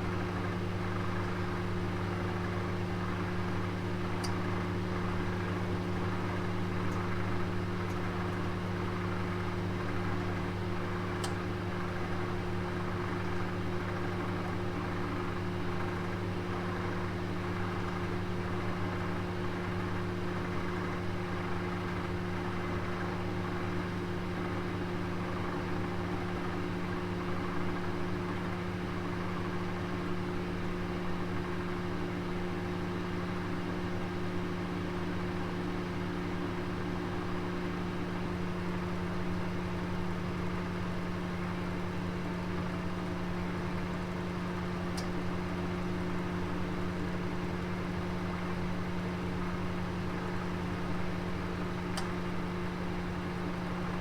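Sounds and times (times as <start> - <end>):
oven humming: 0.0 - 21.6, 30.4 - 54.0.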